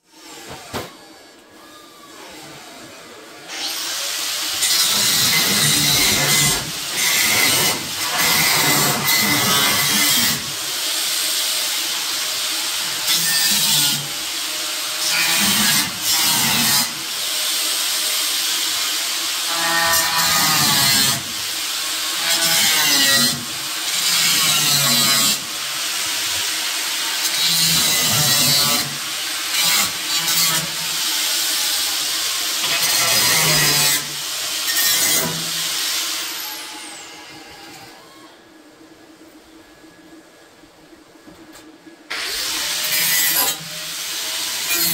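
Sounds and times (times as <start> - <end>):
handheld grinder cutting steel: 3.5 - 37.9, 42.1 - 44.9.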